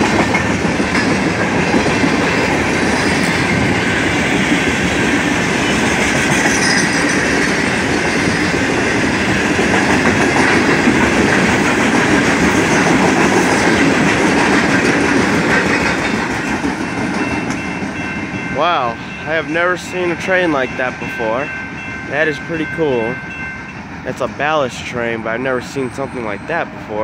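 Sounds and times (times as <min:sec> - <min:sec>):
steel train wheels on track: 0:00.0 - 0:27.0.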